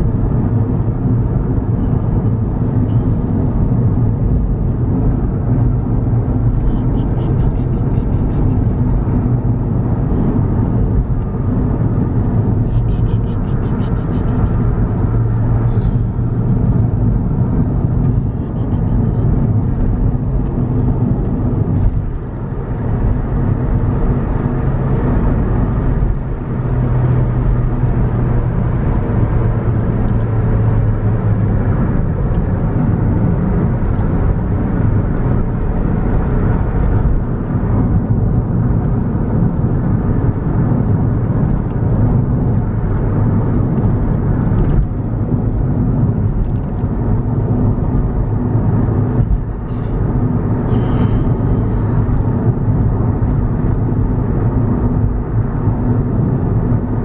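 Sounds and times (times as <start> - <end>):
car road and engine drone: 0.0 - 57.0.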